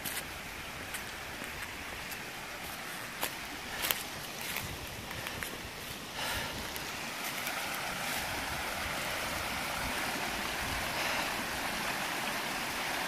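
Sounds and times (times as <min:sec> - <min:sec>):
mountain stream rushing over stones: 0:00.0 - 0:13.0.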